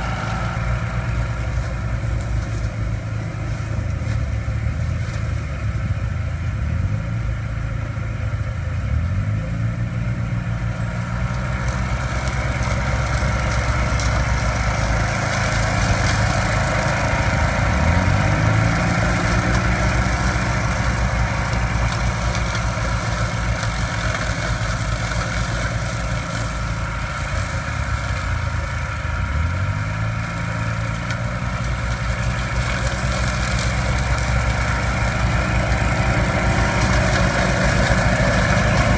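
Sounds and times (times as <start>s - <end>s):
mower engines running: 0.0s - 38.9s.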